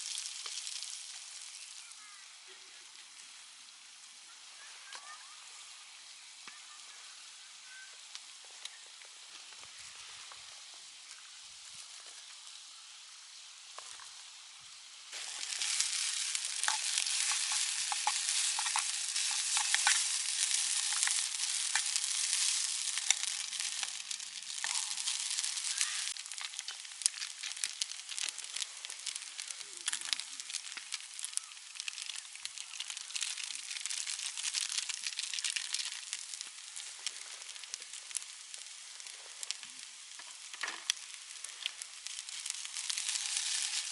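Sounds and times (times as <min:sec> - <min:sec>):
food sizzling in a hot pan: 0:00.0 - 0:43.9
oil crackles and pops: 0:00.0 - 0:43.9.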